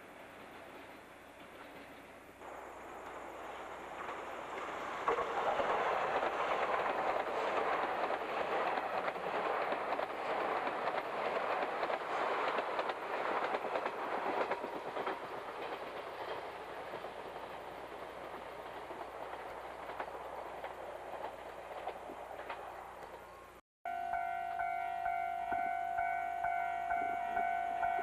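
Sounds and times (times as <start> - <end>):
train wheels clattering over joints: 0.2 - 23.4.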